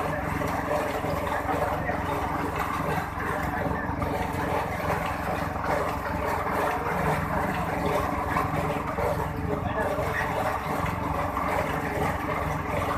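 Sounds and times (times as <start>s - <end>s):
grinding machine motor hum: 0.0s - 12.9s.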